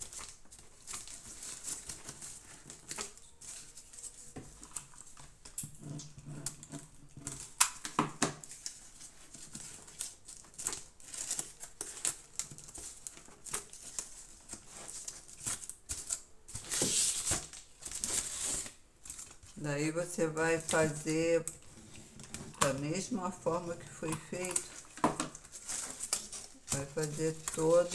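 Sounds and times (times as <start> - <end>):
paper crinkling and rustling: 0.0 - 27.9.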